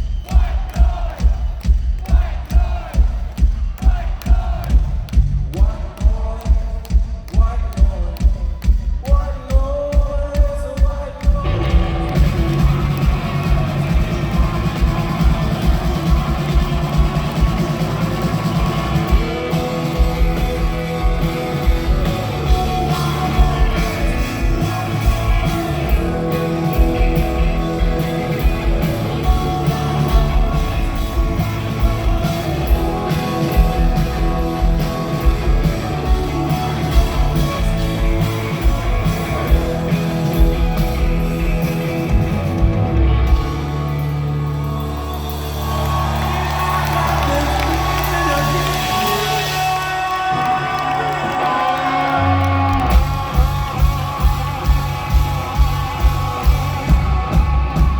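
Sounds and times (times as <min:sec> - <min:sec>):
drums keeping a steady beat: 0:00.0 - 0:57.9
rock band playing live: 0:00.0 - 0:57.9.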